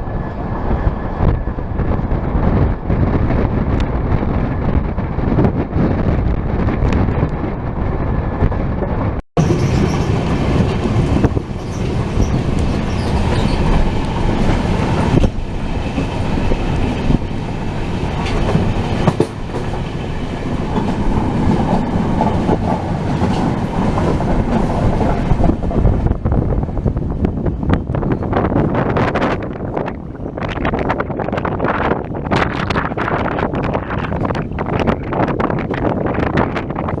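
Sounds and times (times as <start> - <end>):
clickety-clack of rails: 0.0 - 37.0
train wheels rumbling on track: 0.0 - 37.0.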